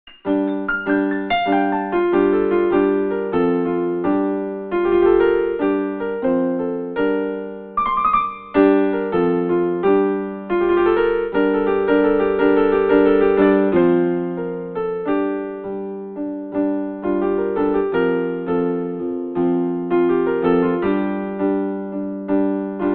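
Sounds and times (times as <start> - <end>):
solo piano: 0.0 - 22.9.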